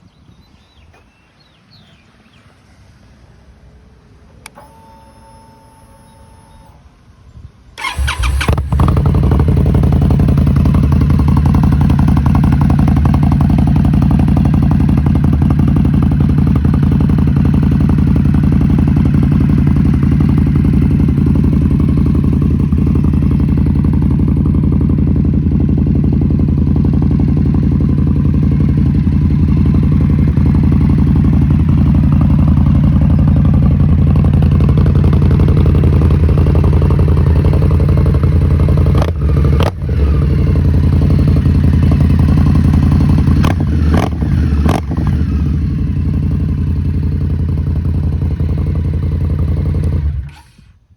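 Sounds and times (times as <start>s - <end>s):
motorcycle engine idling: 7.8s - 50.3s.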